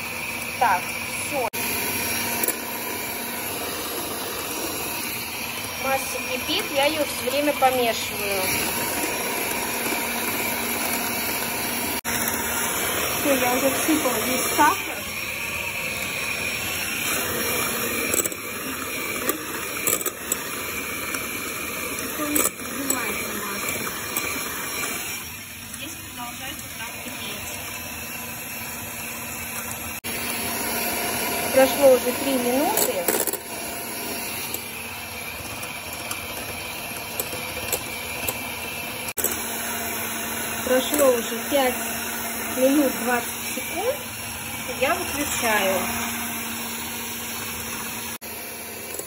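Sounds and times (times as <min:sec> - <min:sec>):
electric mixer whipping: 0:00.0 - 0:49.0.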